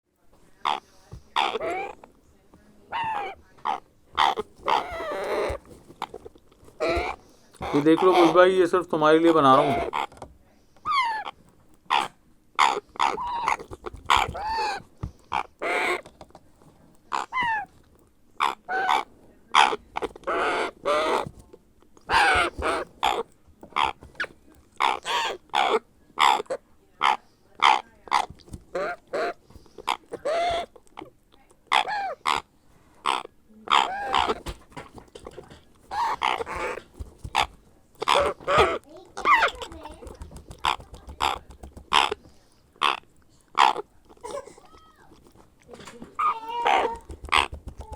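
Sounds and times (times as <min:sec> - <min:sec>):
parrot chick raspy calls: 0:00.6 - 0:02.1, 0:02.8 - 0:10.2, 0:10.8 - 0:16.3, 0:17.1 - 0:21.4, 0:22.0 - 0:47.9.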